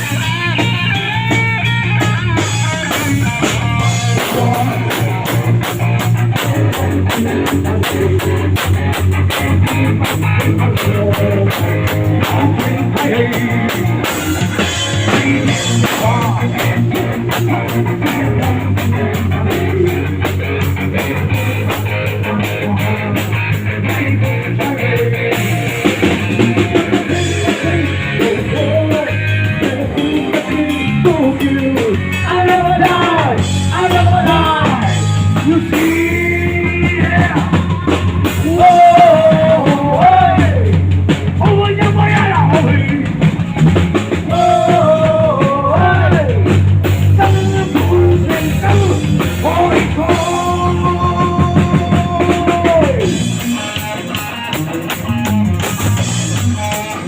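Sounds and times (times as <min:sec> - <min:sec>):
bass guitar: 0:00.0 - 0:57.0
drum kit: 0:00.0 - 0:57.0
electric guitar: 0:00.0 - 0:57.0
singing voice or lead guitar: 0:00.0 - 0:57.0.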